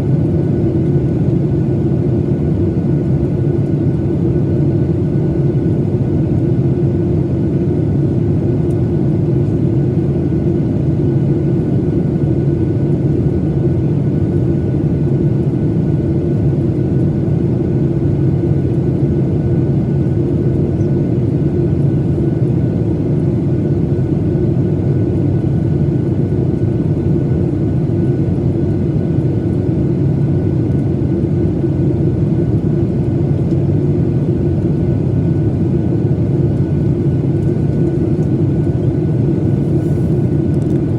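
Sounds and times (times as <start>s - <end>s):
airliner cabin drone: 0.0s - 40.9s.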